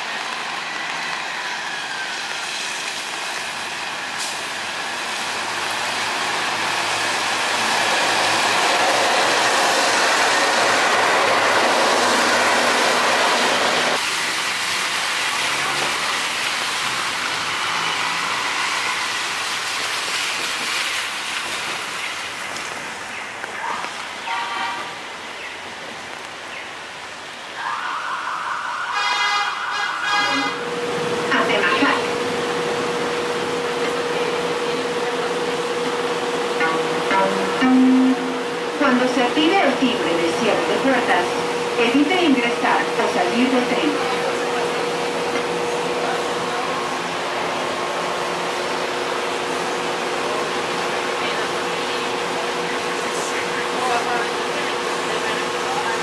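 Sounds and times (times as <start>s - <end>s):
train passing: 0.0s - 26.0s, 26.8s - 56.0s
tyres hissing on wet street: 0.0s - 56.0s.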